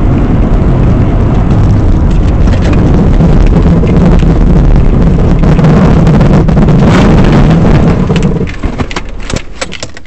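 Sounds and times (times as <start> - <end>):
car engine running: 0.0 - 9.6.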